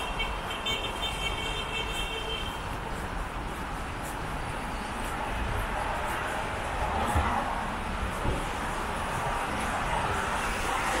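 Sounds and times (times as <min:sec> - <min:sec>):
rain and traffic on wet road: 0:00.0 - 0:11.0.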